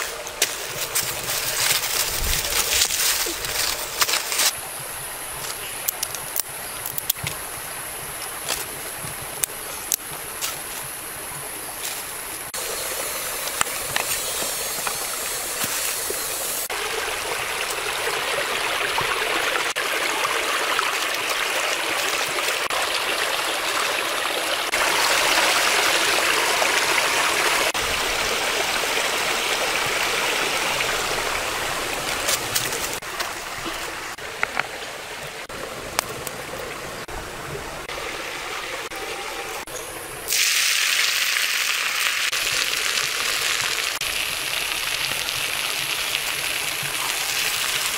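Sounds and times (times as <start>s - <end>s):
stream water running: 0.0s - 47.9s.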